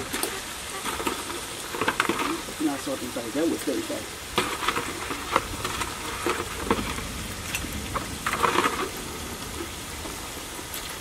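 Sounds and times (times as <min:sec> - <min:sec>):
chicken frying in oil: 0:00.0 - 0:11.0
oil popping and crackling: 0:00.0 - 0:11.0.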